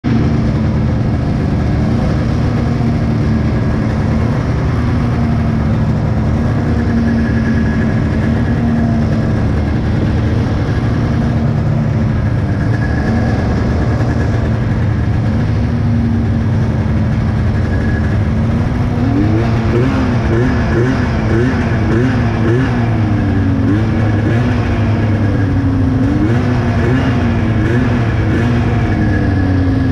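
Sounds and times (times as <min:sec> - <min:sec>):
snowmobile engine revving: 0:00.1 - 0:29.9
snowmobile engines idling: 0:00.1 - 0:29.9.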